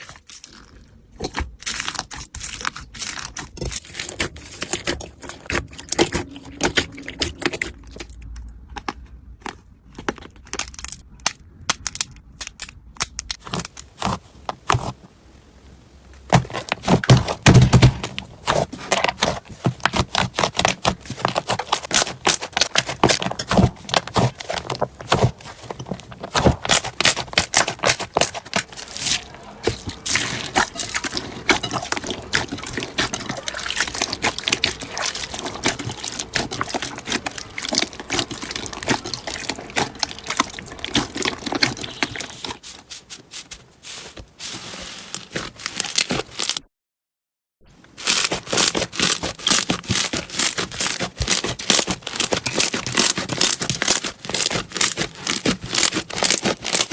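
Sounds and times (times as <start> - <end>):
slime crackling and popping: 0.0 - 8.4, 16.1 - 42.7, 43.4 - 46.7, 48.0 - 56.9.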